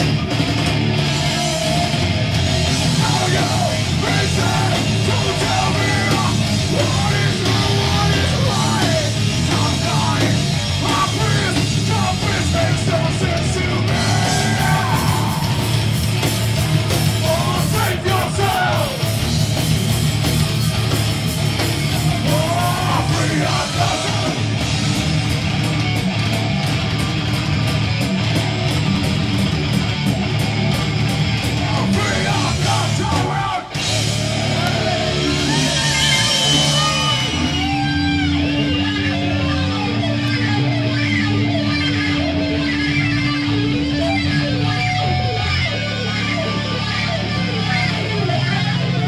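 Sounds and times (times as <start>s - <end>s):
bending lead guitar lines: 0.0s - 49.0s
heavy metal band playing live: 0.0s - 49.0s.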